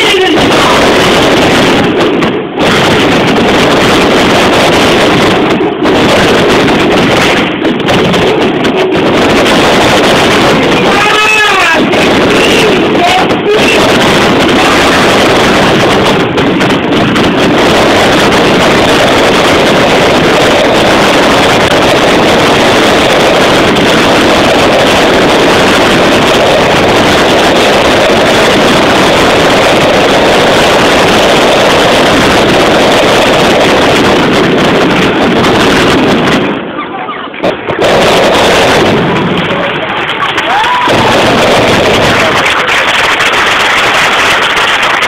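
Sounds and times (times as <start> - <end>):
fireworks bangs roaring: 0.0 - 45.0.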